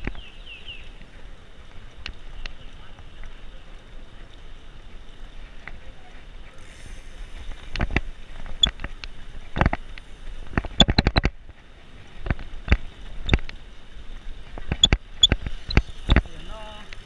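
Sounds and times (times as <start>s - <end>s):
bicycle rattling and clicking: 0.0s - 17.0s.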